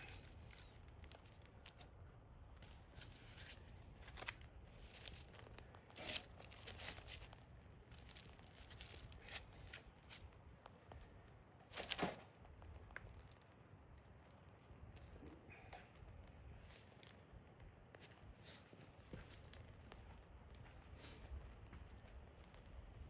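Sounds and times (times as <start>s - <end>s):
embers crackling: 0.0s - 23.0s.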